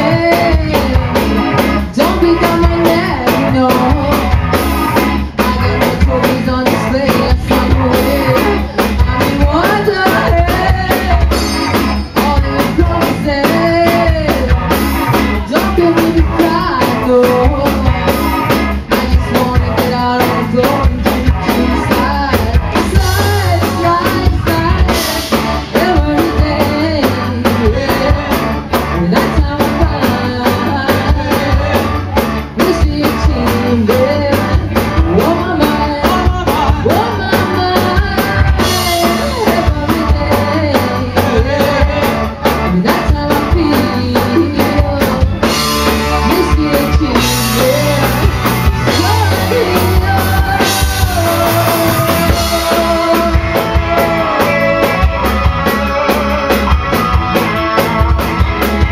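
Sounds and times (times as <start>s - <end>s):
woman singing: 0.0s - 56.8s
drum kit beat: 0.0s - 58.9s
electric guitars: 0.0s - 58.9s.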